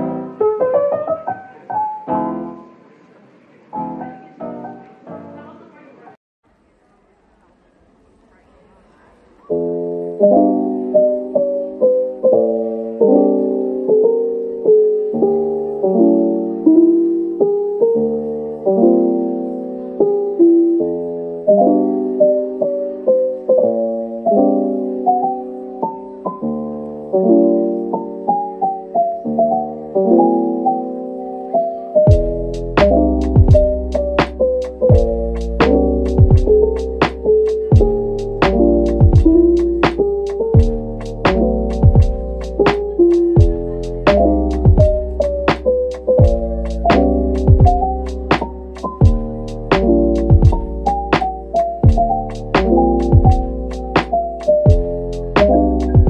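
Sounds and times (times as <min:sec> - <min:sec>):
piano music: 0:00.0 - 0:06.1, 0:09.4 - 0:56.0.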